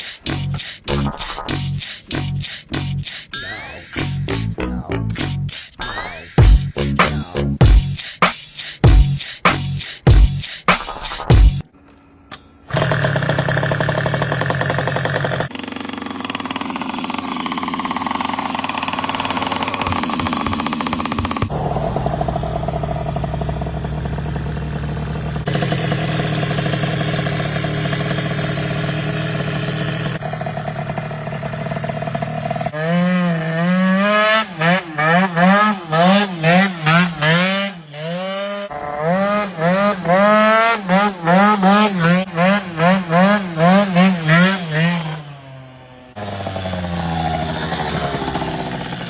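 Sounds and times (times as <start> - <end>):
scooter engine idling and revving: 6.4 - 11.7, 12.7 - 49.0.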